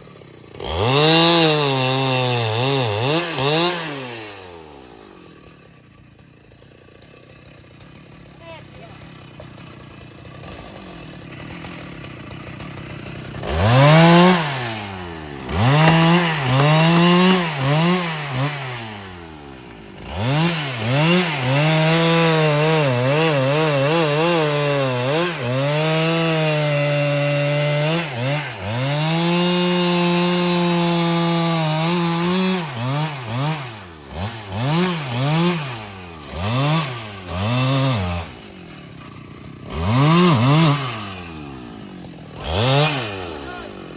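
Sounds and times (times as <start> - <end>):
chainsaw cutting wood: 0.0 - 43.9
chainsaw idling and revving: 0.0 - 43.9.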